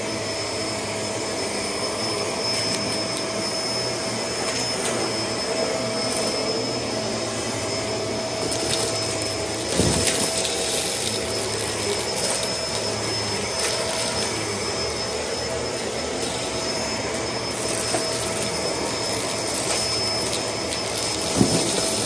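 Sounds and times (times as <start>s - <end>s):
vacuum cleaner whining: 0.0s - 22.0s.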